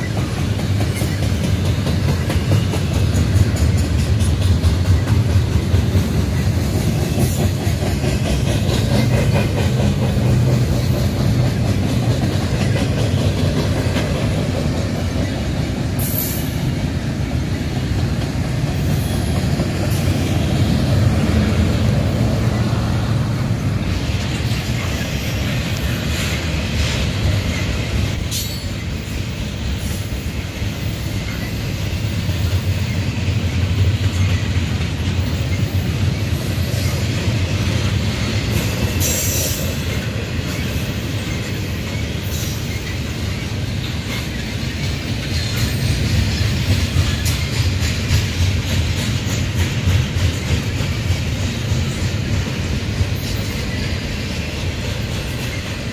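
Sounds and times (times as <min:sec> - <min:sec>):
train cars rumbling on rails: 0:00.0 - 0:55.9
wheels clicking over rail joints: 0:00.0 - 0:55.9.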